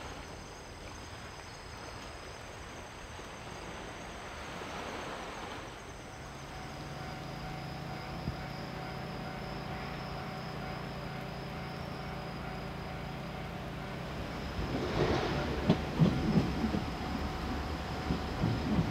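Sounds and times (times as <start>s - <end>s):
crickets chirping: 0.0s - 18.9s
diesel locomotive engine drone: 0.0s - 18.9s.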